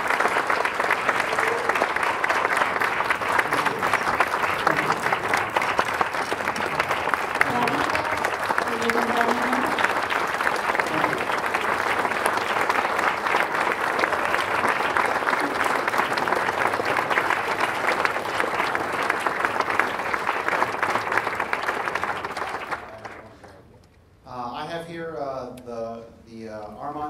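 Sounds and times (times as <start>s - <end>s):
audience applauding: 0.0s - 23.6s.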